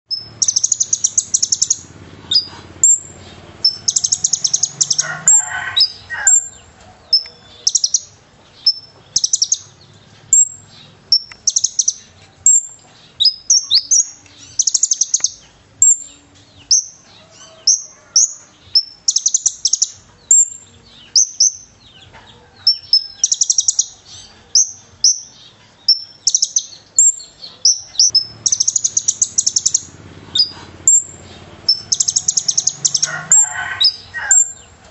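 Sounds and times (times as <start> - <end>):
bird singing buzzy trills: 0.1 - 22.0, 22.6 - 34.8.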